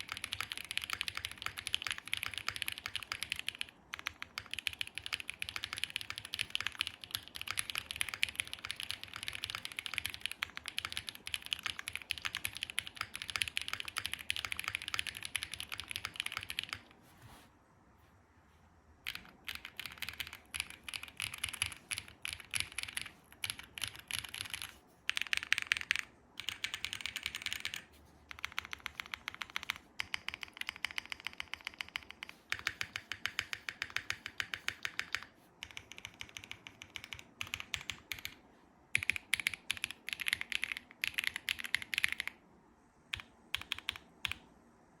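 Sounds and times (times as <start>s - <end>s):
mechanical keyboard typing: 0.0s - 16.9s, 19.0s - 42.4s, 43.1s - 44.5s.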